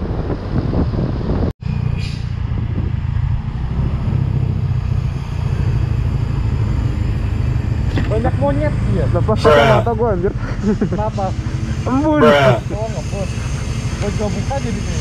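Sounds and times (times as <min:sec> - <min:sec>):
wind buffeting microphone: 0:00.0 - 0:14.9
motorcycle engine and road rumble: 0:00.0 - 0:15.0.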